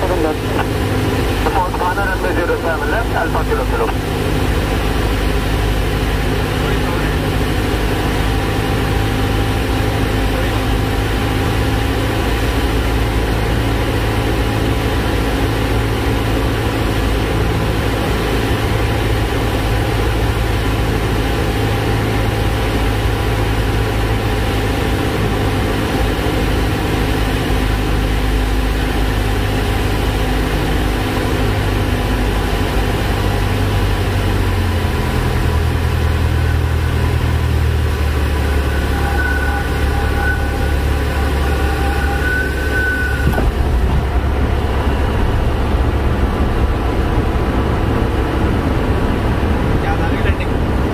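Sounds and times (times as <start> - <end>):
propeller plane engine in cabin: 0.0 - 50.9.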